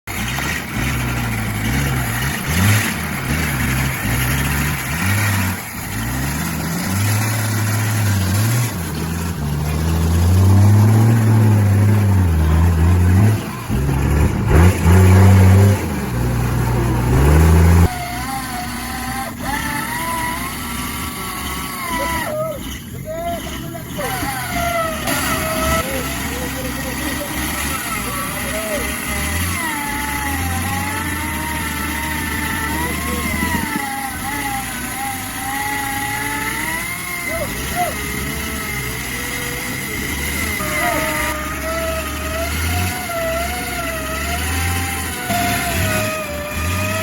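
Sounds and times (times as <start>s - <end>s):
engine revving unevenly: 0.0s - 47.0s.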